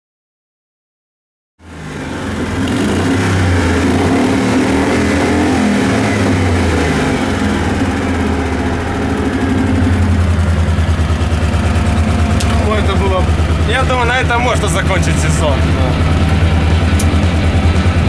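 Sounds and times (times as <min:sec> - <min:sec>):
car engine running hard: 0:01.6 - 0:18.0.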